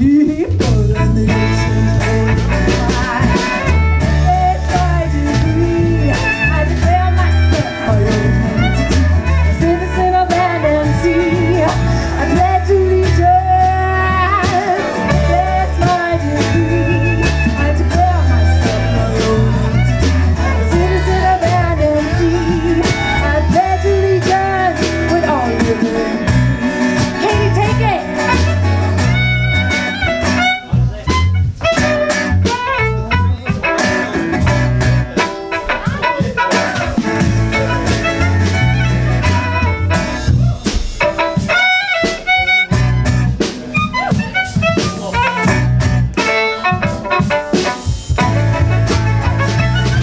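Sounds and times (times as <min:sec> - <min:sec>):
pulsing bass line: 0:00.0 - 0:35.2, 0:35.8 - 0:41.6, 0:48.1 - 0:50.0
folk band playing upbeat song: 0:00.0 - 0:50.0.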